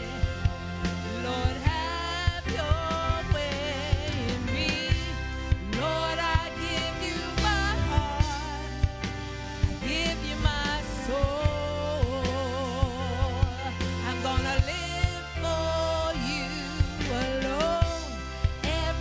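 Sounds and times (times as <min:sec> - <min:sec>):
drum kit: 0:00.0 - 0:19.0
keyboard: 0:00.0 - 0:19.0
person singing with vibrato: 0:00.0 - 0:19.0.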